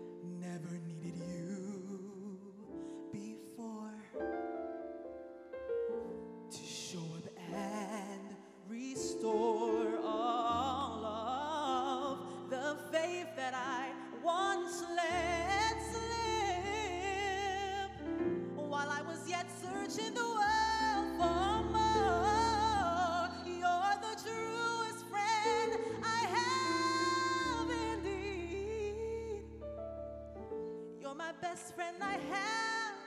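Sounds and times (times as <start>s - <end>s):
woman singing a slow ballad: 0.0s - 4.2s, 6.5s - 29.6s, 30.6s - 33.0s.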